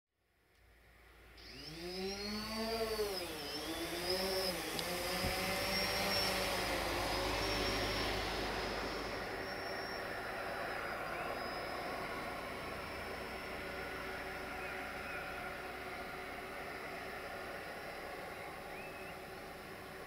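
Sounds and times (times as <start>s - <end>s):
drone motors whining: 0.5s - 20.0s.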